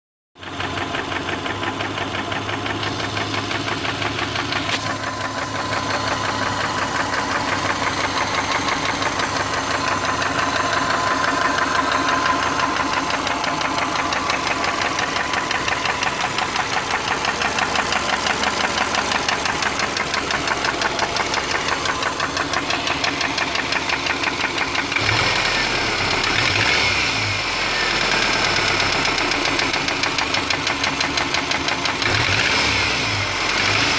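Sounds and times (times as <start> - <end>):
engine running with rhythmic knock: 0.4 - 33.9.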